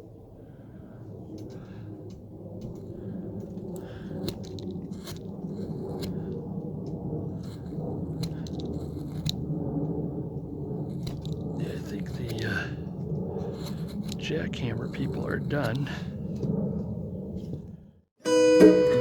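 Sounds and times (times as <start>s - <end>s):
steady low rumble: 0.0s - 18.1s
carving tool scraping wood: 1.4s - 17.7s.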